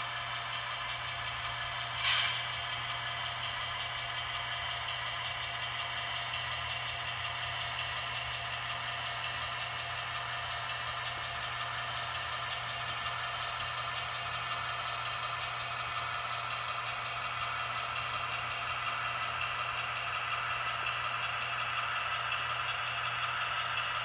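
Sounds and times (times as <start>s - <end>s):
diesel engine idling through small speaker: 0.0s - 24.0s.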